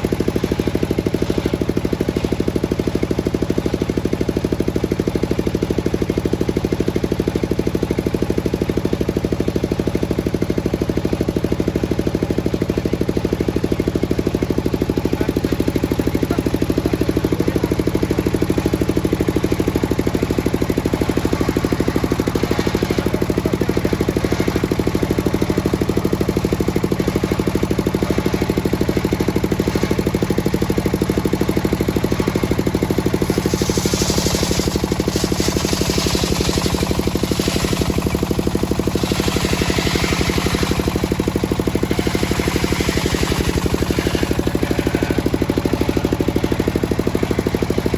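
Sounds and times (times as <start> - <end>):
sawmill engine knocking: 0.0 - 47.9.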